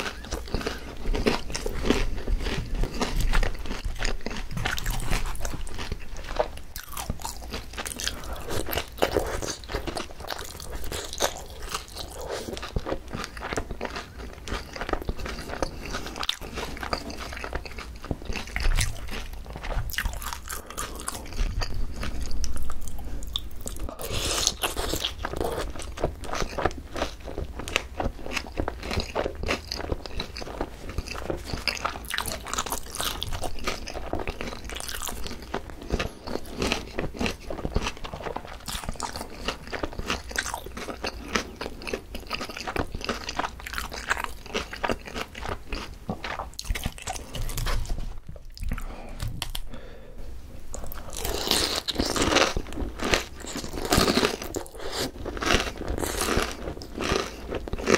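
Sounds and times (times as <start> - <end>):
crunchy food chewing: 0.0 - 49.8, 50.7 - 57.9.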